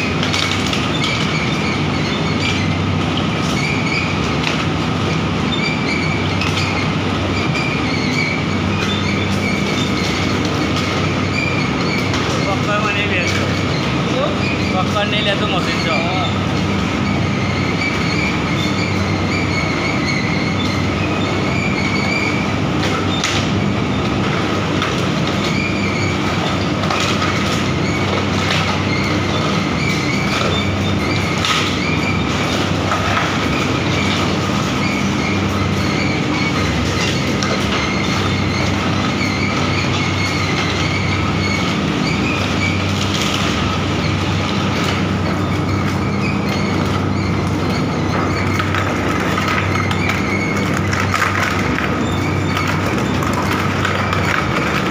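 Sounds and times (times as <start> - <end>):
shredder machine drone: 0.0 - 54.9.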